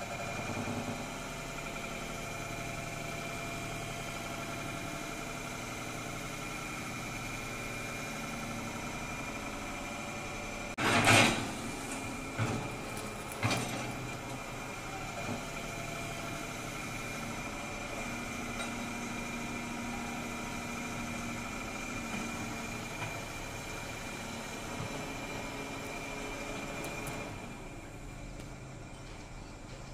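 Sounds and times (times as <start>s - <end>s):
excavator engine running: 0.0s - 29.9s.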